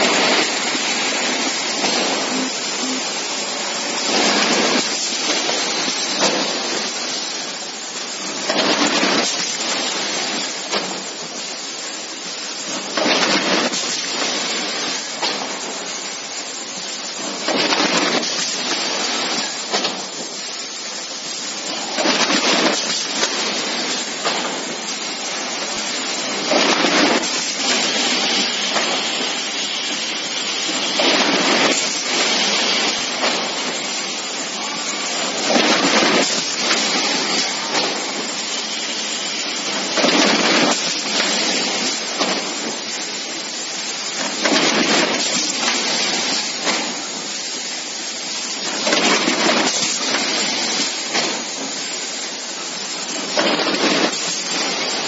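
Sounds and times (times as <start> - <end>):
bottle conveyor running: 0.0 - 55.0
packing machine running: 0.0 - 55.0.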